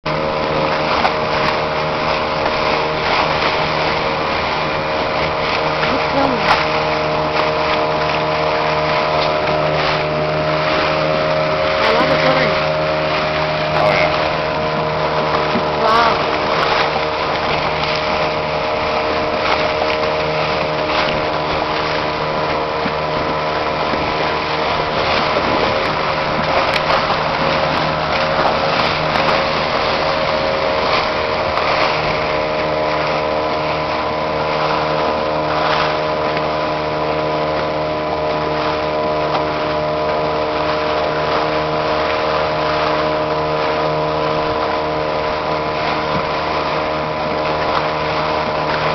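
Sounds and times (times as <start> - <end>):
boat engine humming: 0.0 - 48.9
water rushing: 0.0 - 48.9
wind: 0.0 - 48.9.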